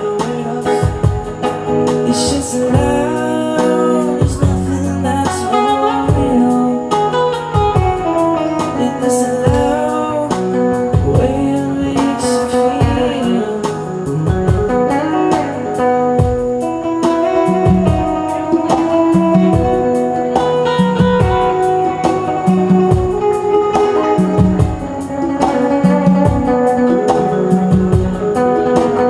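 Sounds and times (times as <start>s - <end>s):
live reggae band: 0.0s - 29.0s
person singing: 0.0s - 29.0s.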